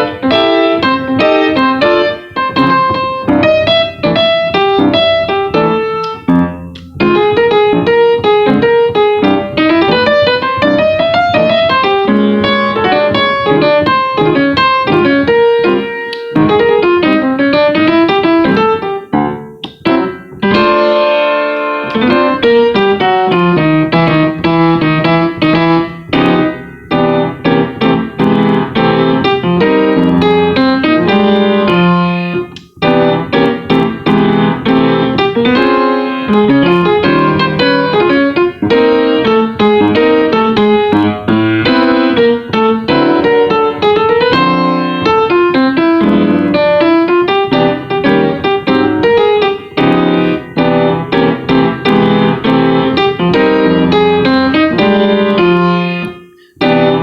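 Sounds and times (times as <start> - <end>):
solo jazz piano: 0.0 - 57.0.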